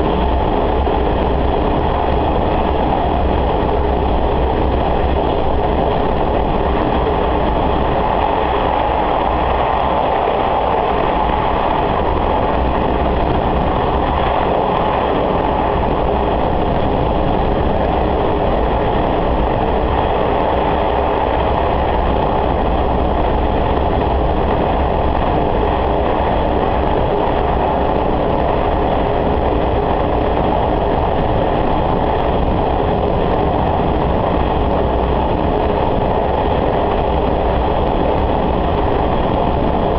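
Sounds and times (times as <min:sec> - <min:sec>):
rail running noise: 0:00.0 - 0:39.9
railcar engine hum: 0:00.0 - 0:39.9.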